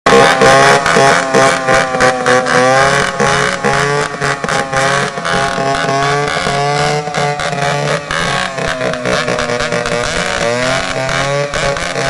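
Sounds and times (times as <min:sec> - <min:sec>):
chainsaw engines revving: 0:00.1 - 0:12.0
sharp cracks: 0:00.1 - 0:12.0.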